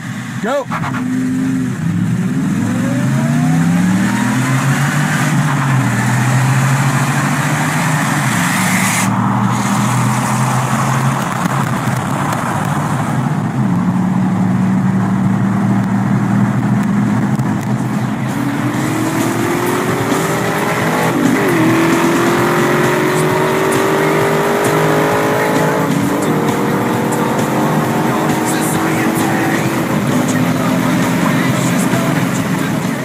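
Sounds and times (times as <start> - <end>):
car engine accelerating hard: 0.0 - 33.0
wind and road noise: 0.0 - 33.0.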